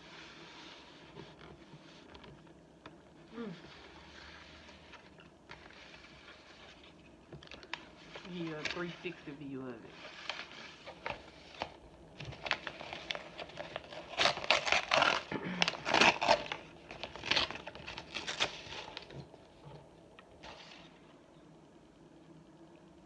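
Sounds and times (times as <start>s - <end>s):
crinkling: 0.0s - 21.2s
crunching and chewing food: 1.3s - 9.0s, 10.0s - 20.9s.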